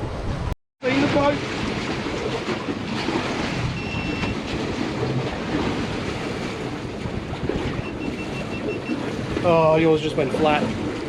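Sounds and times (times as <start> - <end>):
wind buffeting microphone: 0.0 - 11.0
water washing around boat: 0.2 - 11.0.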